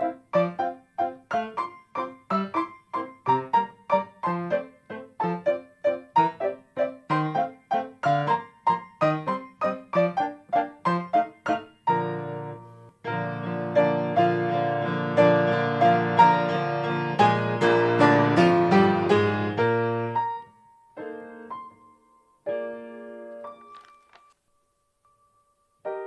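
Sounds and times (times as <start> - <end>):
piano playing a waltz: 0.0 - 24.0, 25.8 - 26.0.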